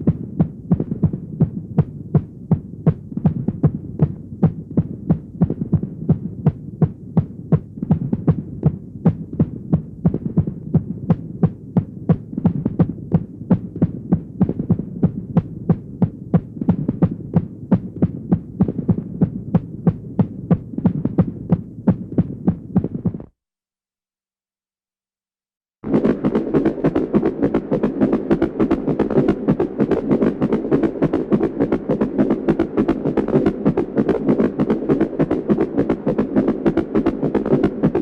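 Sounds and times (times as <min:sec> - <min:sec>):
fast heavy heartbeat: 0:00.0 - 0:23.4, 0:25.8 - 0:38.0.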